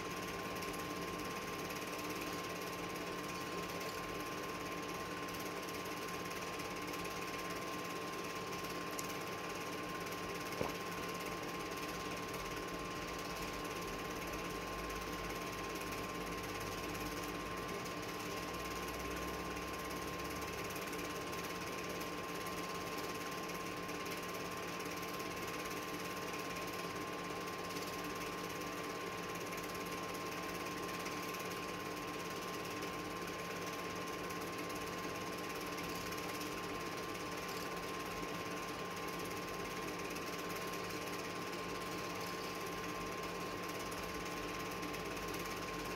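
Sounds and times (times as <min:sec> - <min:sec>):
film projector whirring: 0:00.0 - 0:45.9.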